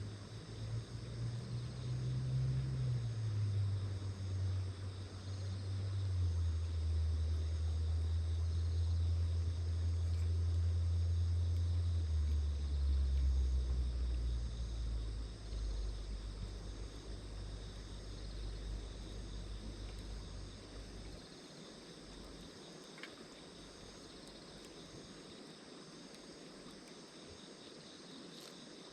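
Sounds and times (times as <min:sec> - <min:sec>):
low droning hum: 0:00.0 - 0:25.5
insects chirping: 0:00.0 - 0:28.9.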